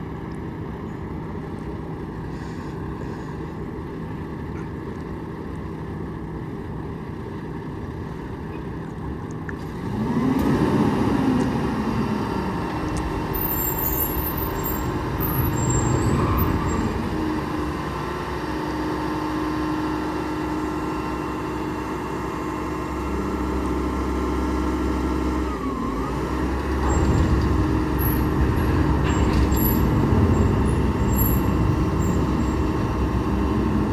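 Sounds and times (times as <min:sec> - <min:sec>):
diesel truck engine idling and revving: 0:00.0 - 0:33.9.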